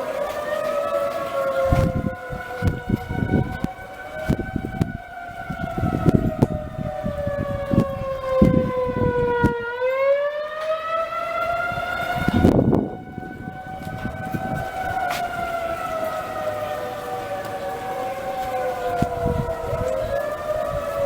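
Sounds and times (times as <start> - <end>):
warning siren rising and falling: 0.0 - 21.0.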